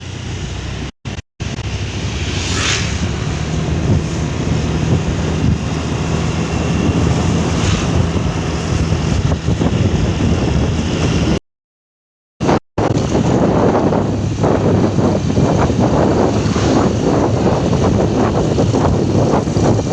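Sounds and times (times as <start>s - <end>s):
vehicle engine humming: 0.0s - 11.4s, 12.4s - 19.9s
wind buffeting microphone: 0.6s - 11.4s, 12.4s - 19.9s.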